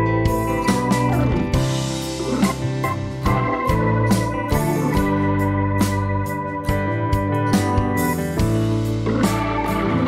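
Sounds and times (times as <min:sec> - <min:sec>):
sustained chords: 0:00.0 - 0:10.0.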